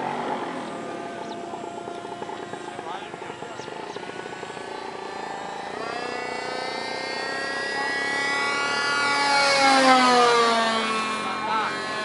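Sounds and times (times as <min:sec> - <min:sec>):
model airplane motor flying past: 0:00.0 - 0:12.0.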